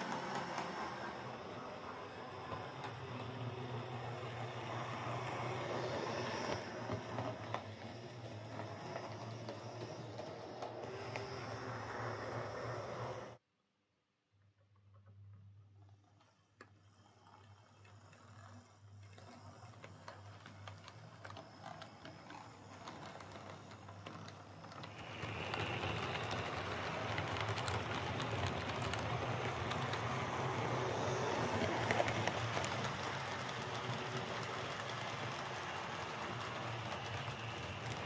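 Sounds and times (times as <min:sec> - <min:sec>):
model train motor whirring: 0:00.0 - 0:13.4, 0:17.2 - 0:38.0
wheels clicking over track: 0:00.0 - 0:13.4, 0:17.9 - 0:38.0.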